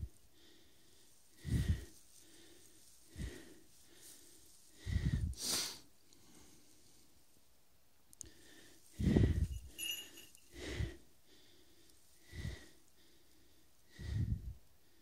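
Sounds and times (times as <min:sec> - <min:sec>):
person breathing heavily: 0:00.0 - 0:07.1, 0:08.2 - 0:15.0.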